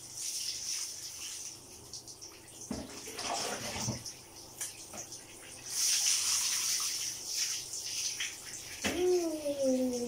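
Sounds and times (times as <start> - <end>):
small splashes and drips: 0.0 - 10.0
water splashing on dog and floor: 0.0 - 10.0.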